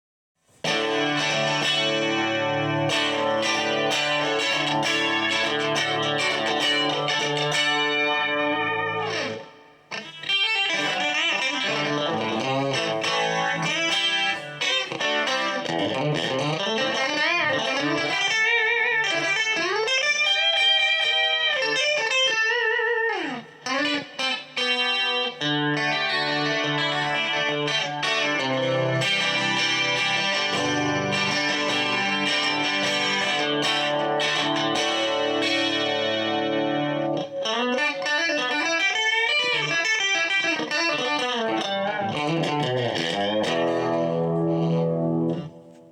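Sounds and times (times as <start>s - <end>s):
clean electric guitar: 0.5s - 45.9s.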